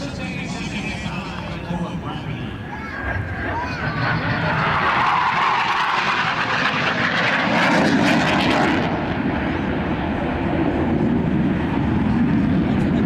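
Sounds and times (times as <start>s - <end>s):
jet engines roaring on low pass: 0.0s - 13.0s.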